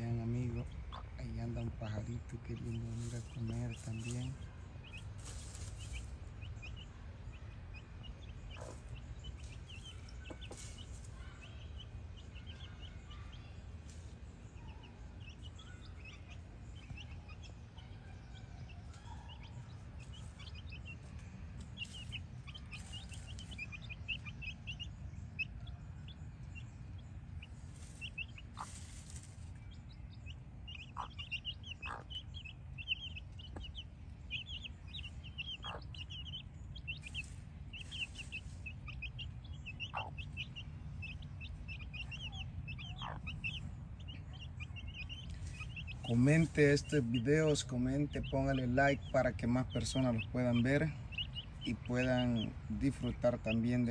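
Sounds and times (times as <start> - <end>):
chicks peeping: 0.0 - 53.9.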